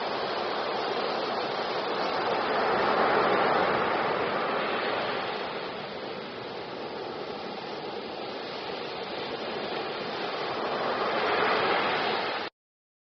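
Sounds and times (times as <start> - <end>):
ocean surf breaking: 0.0 - 12.5.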